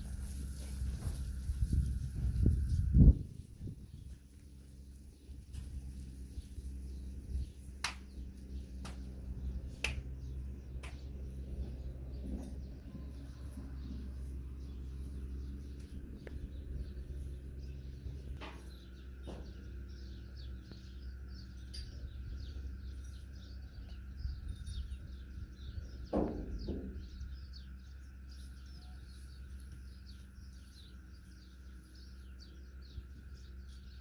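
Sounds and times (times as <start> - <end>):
low background hum: 0.0 - 34.0
small birds chirping: 0.0 - 34.0.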